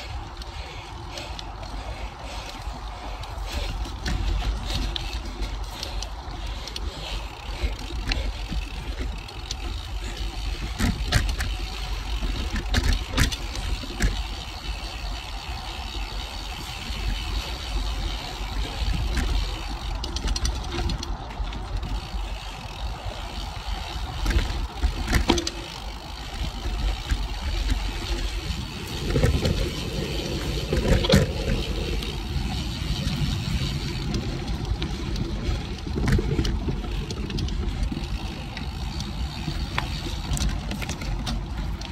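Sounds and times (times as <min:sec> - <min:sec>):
bike knocks and rattles: 0:00.0 - 0:41.9
bike tyre rumble: 0:00.0 - 0:41.9
wind buffeting microphone: 0:00.0 - 0:41.9.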